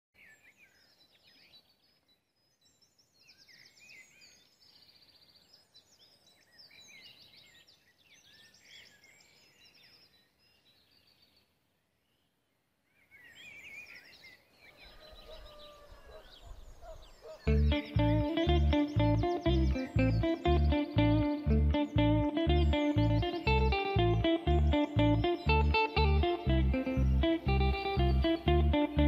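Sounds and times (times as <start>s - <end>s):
songbirds chirping and trilling: 0.2s - 29.0s.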